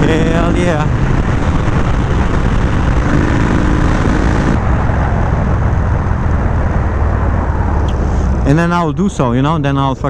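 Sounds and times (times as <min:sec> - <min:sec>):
wind on helmet microphone: 0:00.0 - 0:08.4
motorcycle engine cruising: 0:00.0 - 0:09.5.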